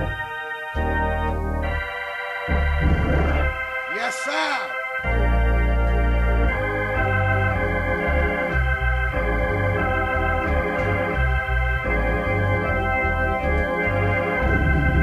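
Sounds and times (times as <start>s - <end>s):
organ playing chords: 0.0s - 15.0s.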